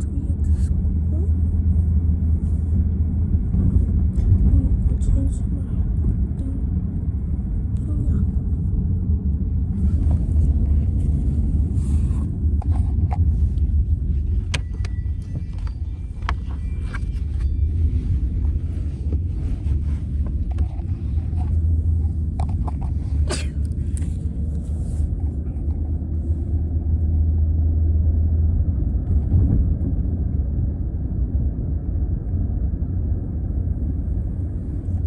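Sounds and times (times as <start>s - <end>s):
car cabin rumble: 0.0s - 35.0s.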